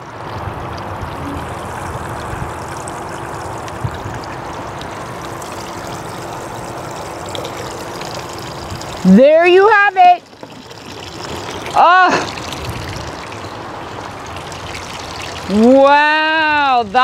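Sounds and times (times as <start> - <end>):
faint steady hum: 0.0 - 17.0
water splashing from a pipe into a bucket: 0.0 - 17.0.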